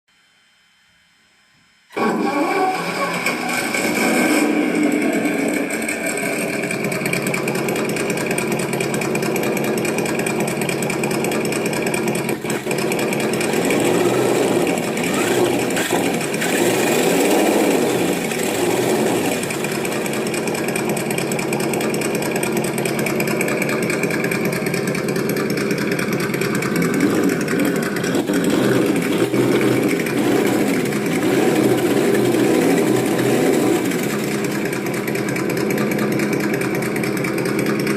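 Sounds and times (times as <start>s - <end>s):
simulated engine sound through loudspeaker: 1.9s - 37.9s.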